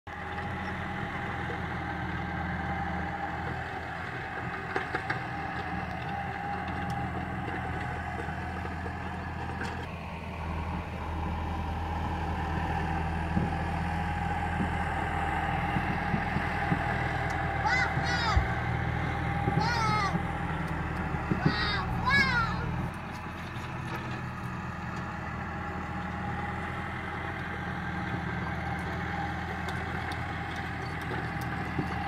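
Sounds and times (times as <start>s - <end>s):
tractor diesel engine running: 0.1s - 32.0s.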